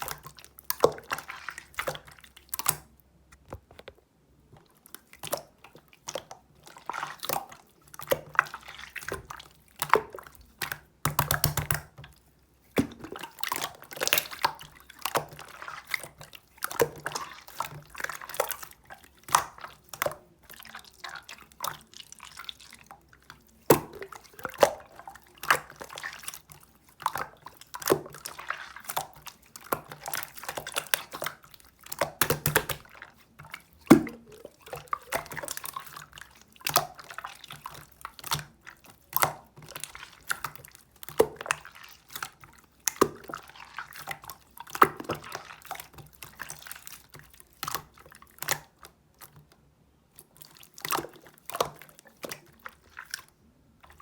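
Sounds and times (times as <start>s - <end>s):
wet clicks and drips: 0.0s - 3.9s, 4.5s - 54.0s.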